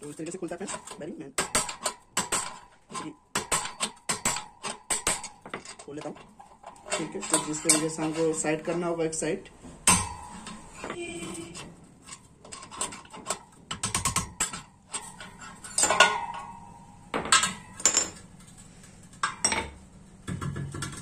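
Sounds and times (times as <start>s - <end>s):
ringing metal clanks: 0.0s - 8.9s, 9.8s - 18.3s.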